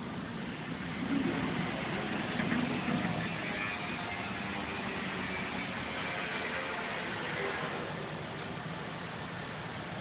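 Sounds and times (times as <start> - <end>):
plate bending machine droning: 0.0 - 10.0.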